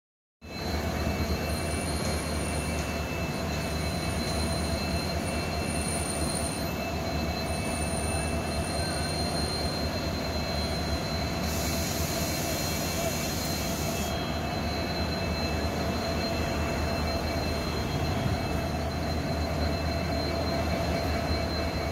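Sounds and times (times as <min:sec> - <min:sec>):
train low rumble: 0:00.4 - 0:21.9
thin high tones: 0:00.6 - 0:21.9.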